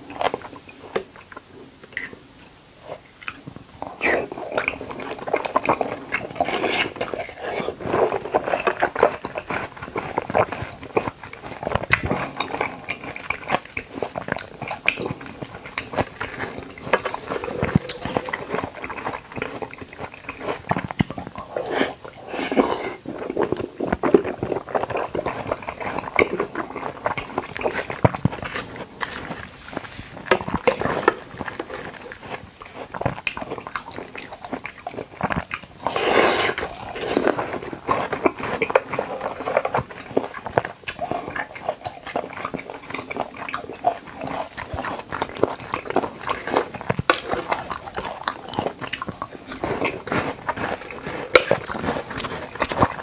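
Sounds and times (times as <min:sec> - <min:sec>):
wet biting and chewing: 0:00.0 - 0:53.0.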